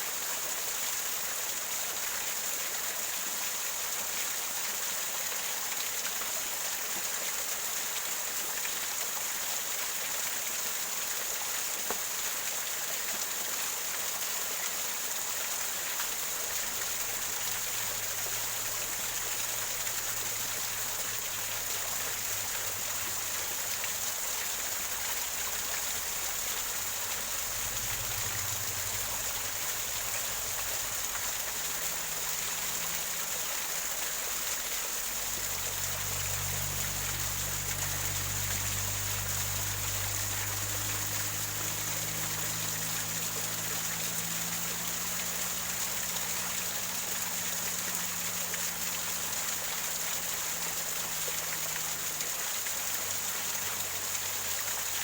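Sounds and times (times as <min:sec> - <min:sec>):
waterfall splashing over rocks: 0:00.0 - 0:55.0.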